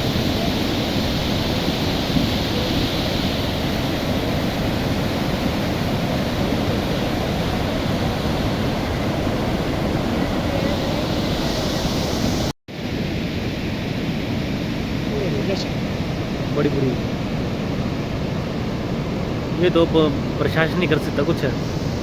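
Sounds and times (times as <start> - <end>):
fast-flowing river rushing: 0.0 - 12.5, 15.0 - 22.0.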